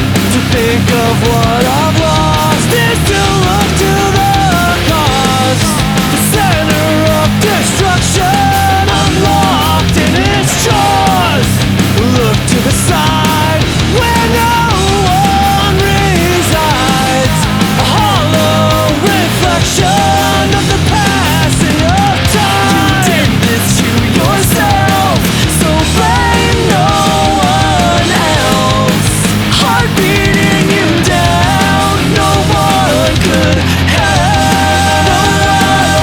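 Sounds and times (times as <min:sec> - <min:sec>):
punk rock with distorted guitars: 0:00.0 - 0:36.0.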